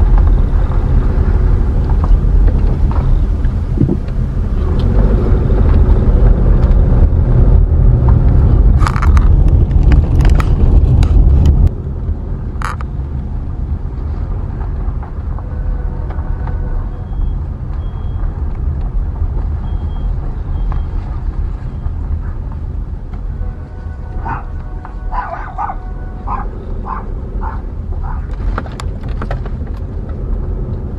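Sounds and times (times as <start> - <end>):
car road and wind noise: 0.0 - 30.9
heavy low rumble: 0.0 - 30.9.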